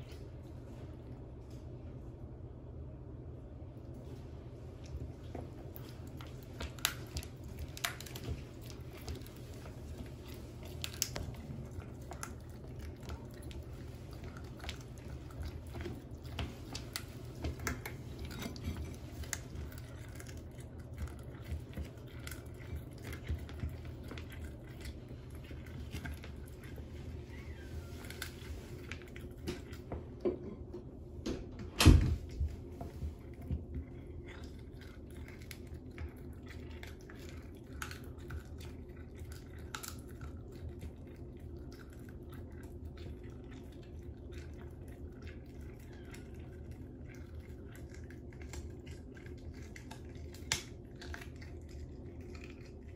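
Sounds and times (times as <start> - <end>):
cat chewing and crunching: 3.9 - 31.2, 32.2 - 52.9.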